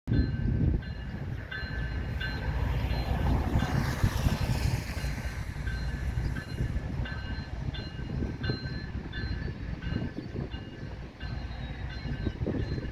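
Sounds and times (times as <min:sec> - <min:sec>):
freight train rumbling past: 0:00.1 - 0:12.9.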